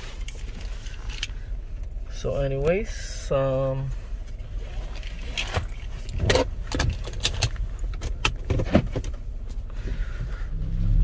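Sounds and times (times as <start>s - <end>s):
road rumble: 0.0s - 11.0s.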